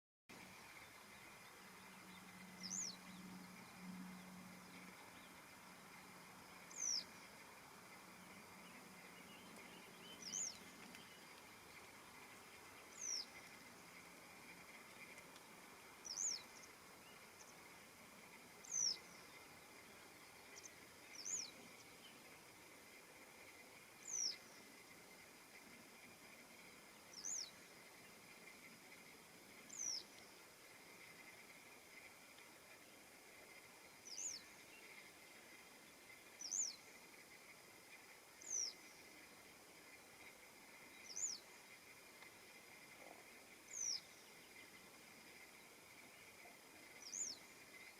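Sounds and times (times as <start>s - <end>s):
faint steady hum: 0.3s - 47.9s.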